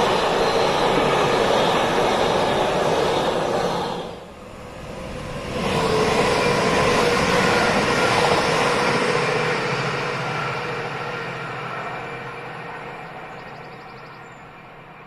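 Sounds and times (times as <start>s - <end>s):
freight train passing: 0.0s - 15.0s
train wheels rumbling on rail: 0.0s - 15.0s.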